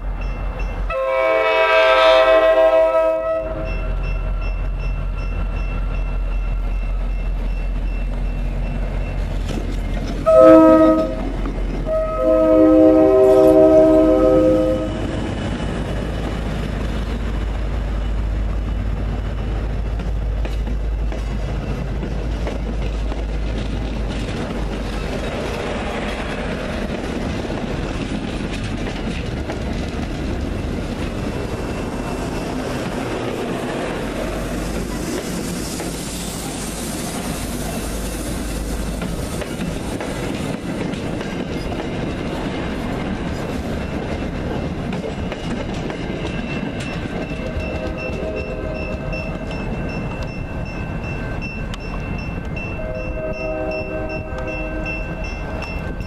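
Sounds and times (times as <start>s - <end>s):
diesel locomotive engine rumbling: 0.0s - 56.0s
train wheels clattering on rails: 3.6s - 56.0s.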